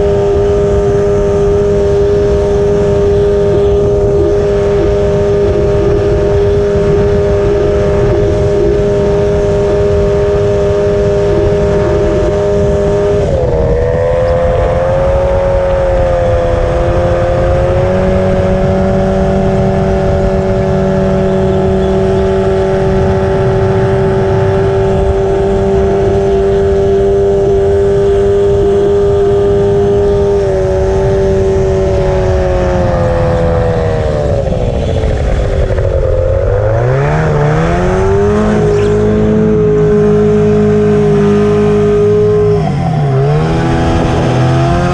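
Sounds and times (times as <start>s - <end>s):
boat engine revving: 0.0s - 44.9s.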